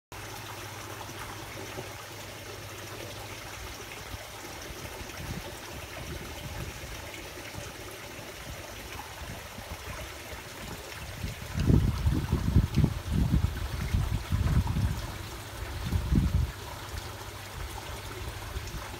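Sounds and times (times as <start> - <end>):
water trickling in a pond: 0.1 - 18.9.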